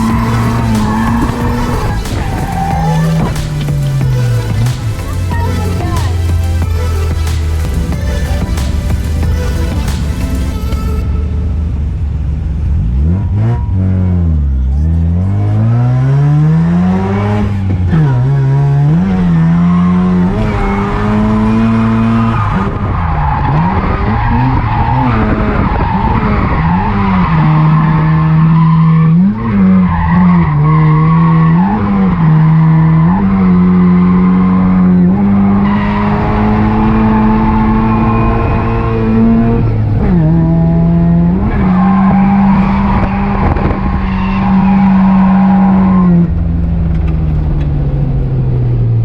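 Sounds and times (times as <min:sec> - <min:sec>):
tyres squealing and skidding: 0:00.0 - 0:15.0, 0:16.8 - 0:40.3, 0:41.2 - 0:46.2
car engine revving hard: 0:00.0 - 0:49.0.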